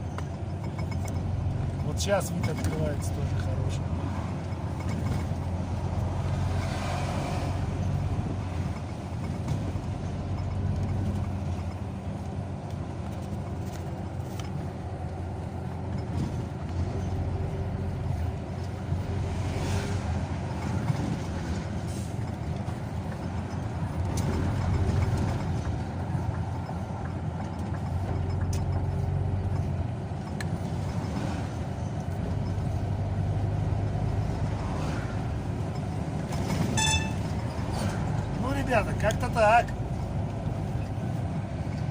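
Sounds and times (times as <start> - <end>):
car engine hum: 0.0 - 41.9.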